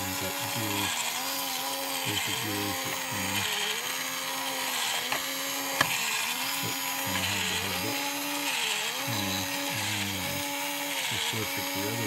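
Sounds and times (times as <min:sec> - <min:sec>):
plastic gears turning: 0:00.0 - 0:12.0
small electric motor whirring: 0:00.0 - 0:12.0.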